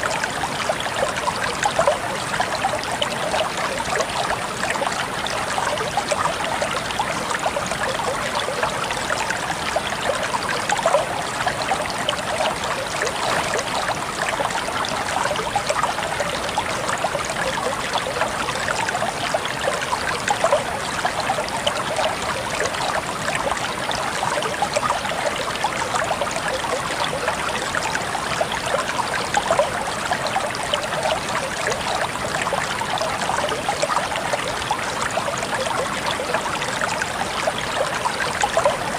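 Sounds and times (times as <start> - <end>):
stream water babbling over rocks: 0.0 - 38.9.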